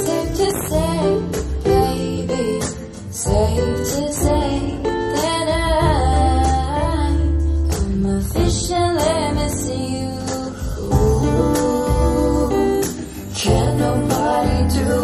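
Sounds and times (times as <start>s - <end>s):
guitar accompaniment: 0.0s - 15.0s
woman singing into a microphone: 0.0s - 15.0s.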